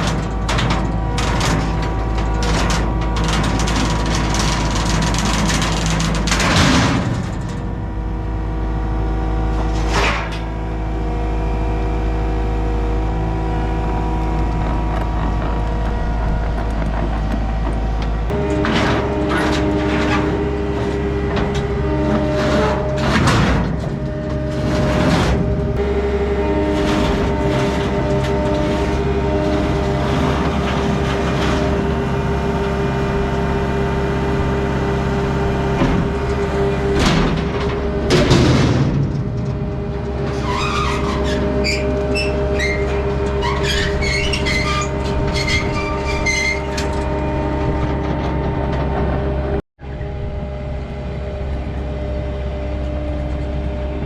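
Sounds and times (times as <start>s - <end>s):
rattling and clatter: 0.0s - 49.6s
vehicle engine running: 0.0s - 54.0s.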